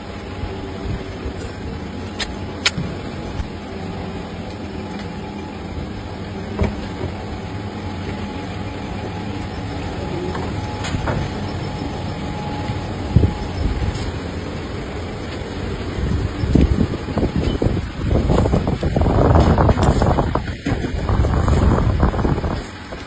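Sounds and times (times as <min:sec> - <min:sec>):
low workshop rumble: 0:00.0 - 0:23.0.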